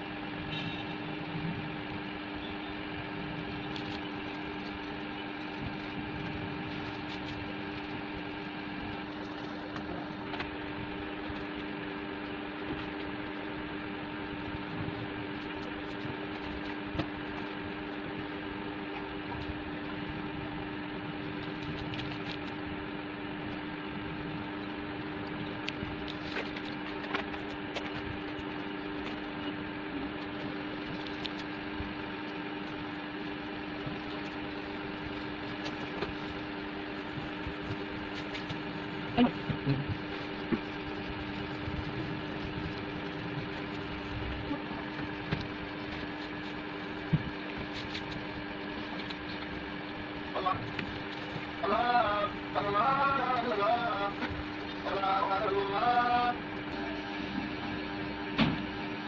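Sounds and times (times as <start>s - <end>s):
machine hum with held tones: 0.0s - 59.0s.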